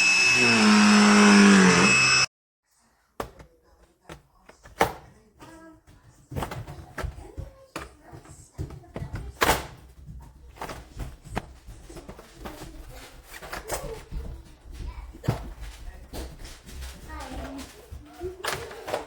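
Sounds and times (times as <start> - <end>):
objects knocking and thunking: 3.2 - 19.0.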